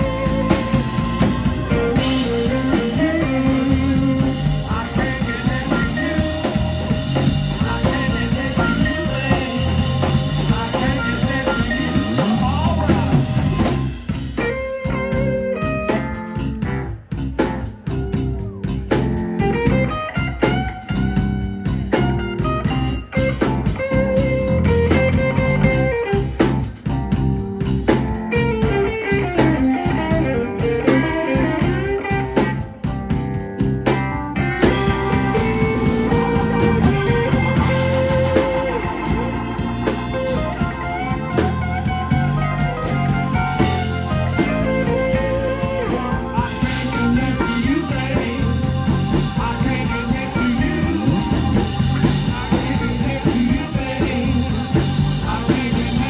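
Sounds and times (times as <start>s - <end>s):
amplified harmonica: 0.0s - 16.5s, 19.4s - 26.8s, 28.4s - 56.0s
drum kit: 0.0s - 56.0s
electric guitar: 0.0s - 56.0s.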